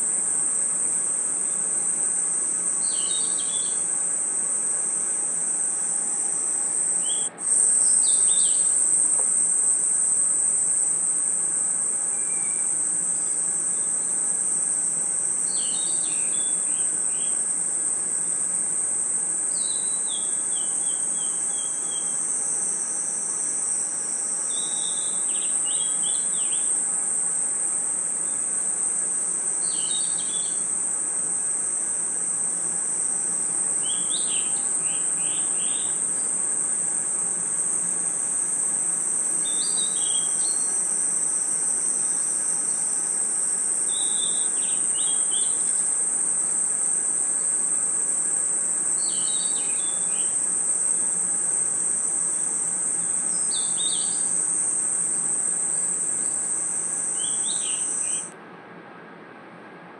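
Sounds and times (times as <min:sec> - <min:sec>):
crickets trilling: 0:00.0 - 0:58.3.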